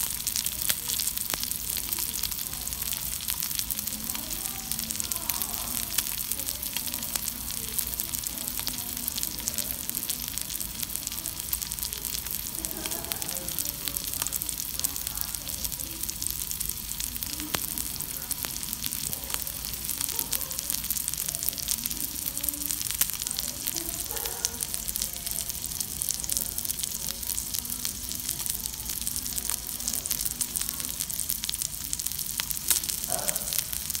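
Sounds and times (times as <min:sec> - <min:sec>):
beef sizzling on a griddle: 0:00.0 - 0:34.0.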